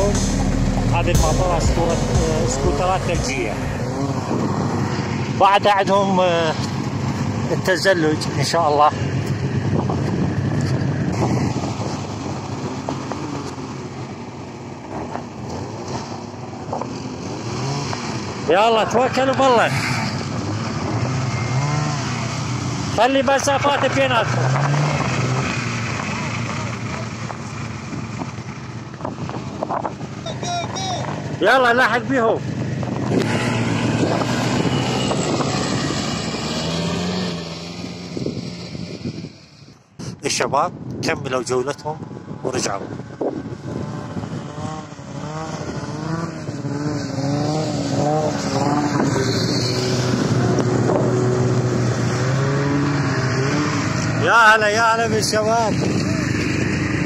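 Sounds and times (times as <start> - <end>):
snowmobile engines revving: 0.0 - 40.4, 41.3 - 57.0.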